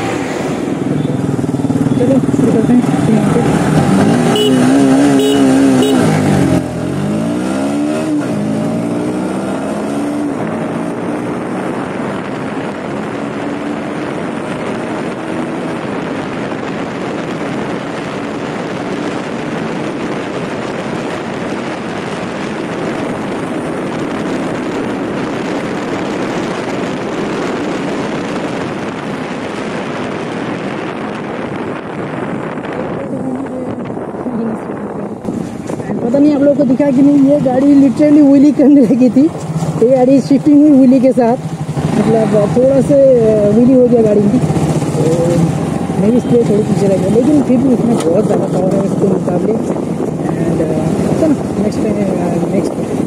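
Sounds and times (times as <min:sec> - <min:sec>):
motorcycle engine accelerating: 0:00.0 - 0:53.0
wind rush on microphone: 0:00.0 - 0:53.0.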